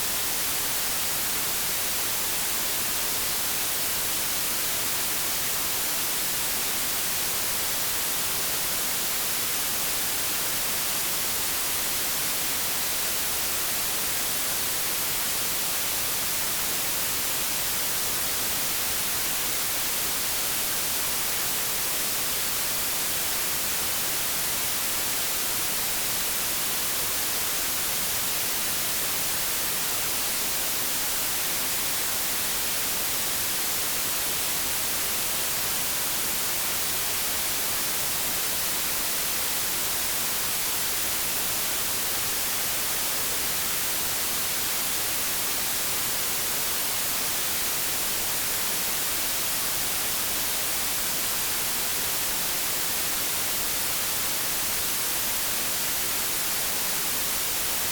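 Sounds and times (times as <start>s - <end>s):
white-noise static hiss: 0.0s - 57.9s.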